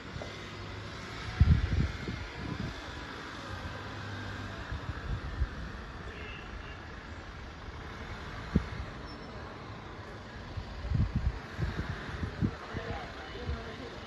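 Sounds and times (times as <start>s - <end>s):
road noise hum: 0.0s - 14.0s.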